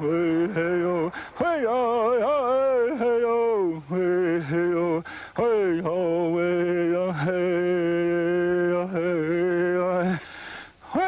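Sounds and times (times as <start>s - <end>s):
man chanting: 0.0s - 10.2s.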